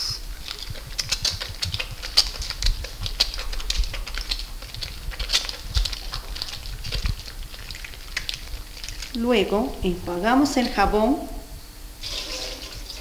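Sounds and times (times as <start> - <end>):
wet hands rubbing soap: 0.0 - 13.0.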